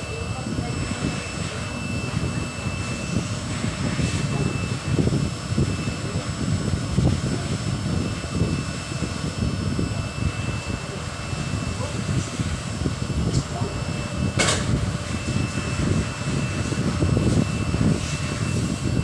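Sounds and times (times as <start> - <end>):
low rumble of machinery: 0.0 - 19.0.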